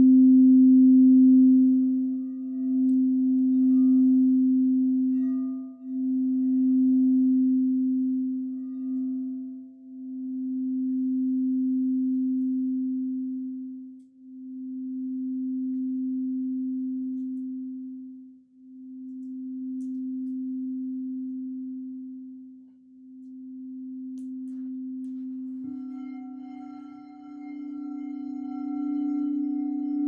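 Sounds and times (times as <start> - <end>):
crystal singing bowl ringing: 0.0 - 22.3, 23.1 - 30.0.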